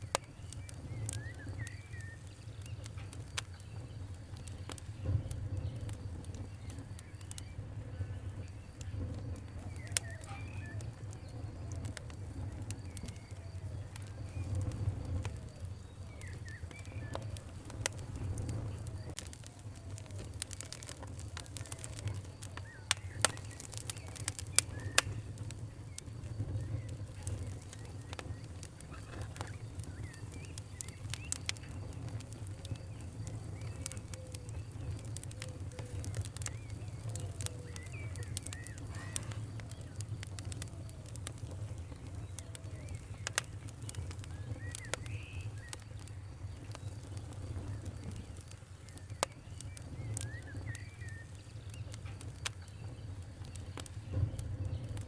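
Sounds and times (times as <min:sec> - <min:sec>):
wood fire crackling and popping: 0:00.0 - 0:55.0
faint short chirping calls: 0:08.7 - 0:55.0.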